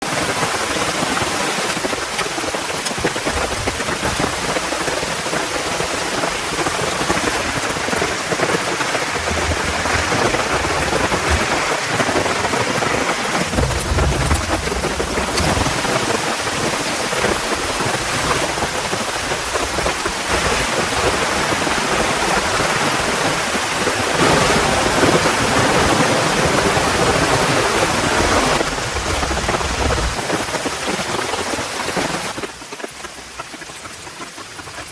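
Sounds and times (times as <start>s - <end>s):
heavy rain falling: 0.0s - 34.9s
thunder rumbling: 3.0s - 31.3s.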